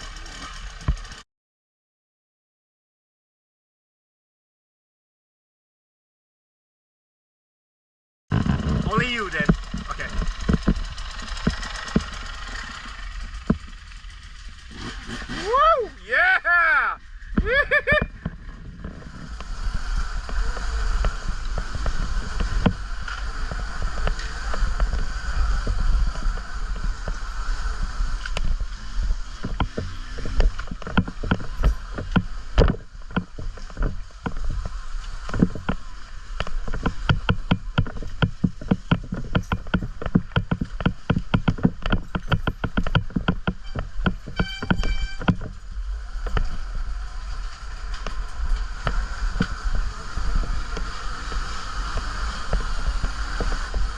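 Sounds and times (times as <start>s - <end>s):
bike knocks and rattles: 0.0s - 1.2s, 8.3s - 15.4s, 17.0s - 53.9s
wind rumbling on microphone: 8.3s - 16.2s, 17.0s - 53.9s
steady whine: 8.3s - 53.9s.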